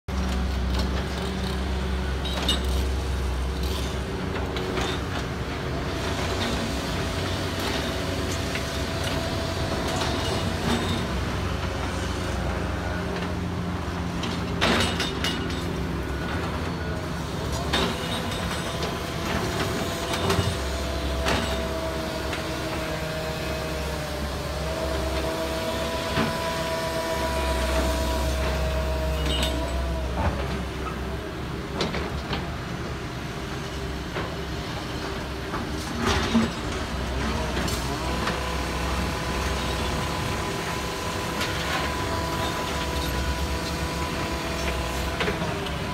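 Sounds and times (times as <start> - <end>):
excavator diesel engines whining: 0.1 - 45.9.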